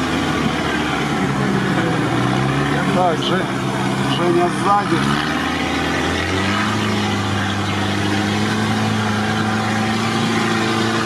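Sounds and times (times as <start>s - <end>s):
vehicle engine running from inside cab: 0.0s - 11.0s.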